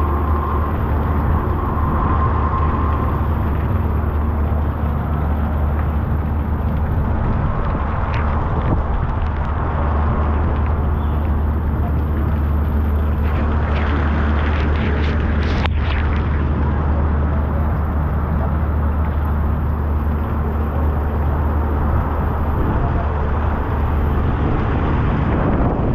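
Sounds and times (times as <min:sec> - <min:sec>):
heavy rain on a street: 0:00.0 - 0:25.9
low rumble: 0:00.0 - 0:25.9.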